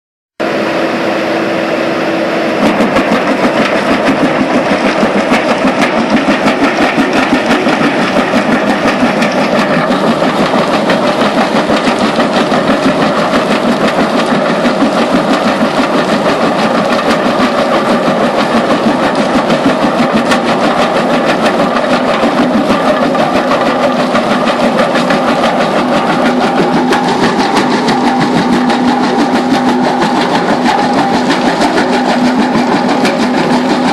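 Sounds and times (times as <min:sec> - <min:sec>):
diesel engine humming: 0:00.4 - 0:33.9
crusher bucket pulsing clatter: 0:02.0 - 0:33.9.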